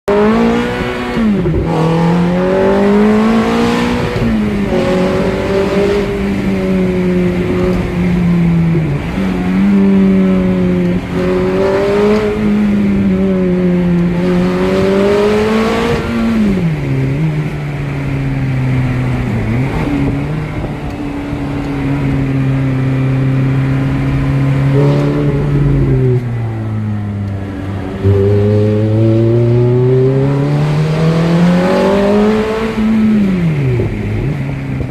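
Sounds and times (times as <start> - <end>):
car engine running under load: 0.1 - 34.9.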